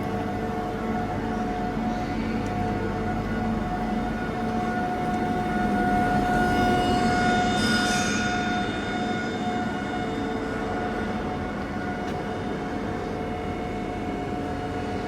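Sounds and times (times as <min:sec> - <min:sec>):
milling machine hum and whine: 0:00.0 - 0:15.0.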